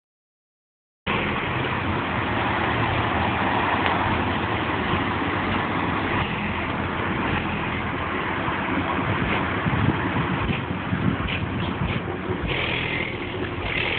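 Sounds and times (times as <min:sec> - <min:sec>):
vehicle engine hum: 0:01.1 - 0:13.9.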